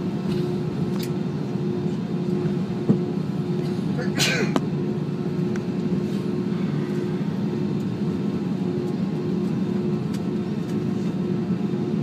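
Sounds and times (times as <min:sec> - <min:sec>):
constant hum: 0:00.0 - 0:12.0
jet engines idling: 0:00.0 - 0:12.0.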